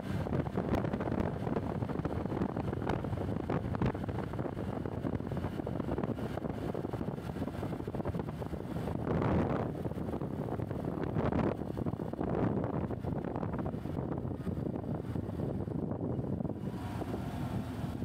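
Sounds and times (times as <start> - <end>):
road rumble: 0.0 - 18.0
wind rushing over microphone: 0.0 - 18.0.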